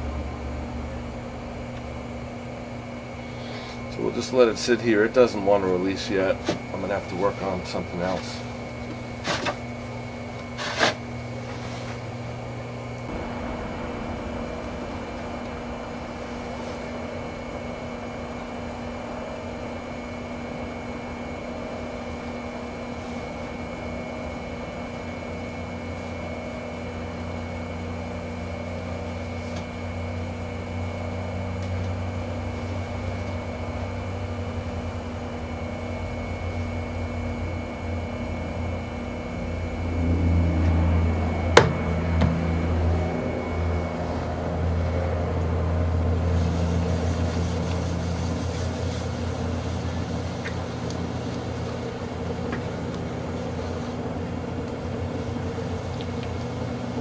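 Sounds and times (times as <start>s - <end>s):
potter's wheel motor hum: 0.0s - 57.0s.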